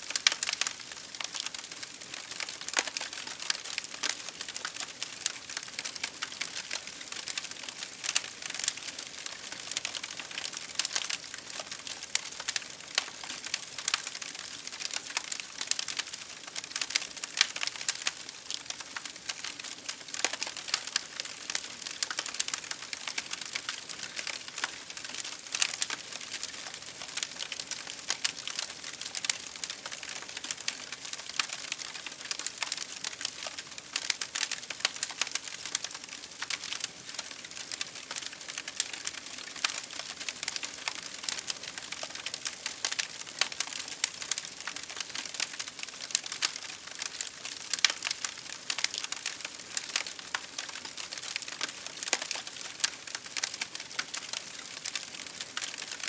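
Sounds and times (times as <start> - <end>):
fire crackling: 0.1 - 56.0.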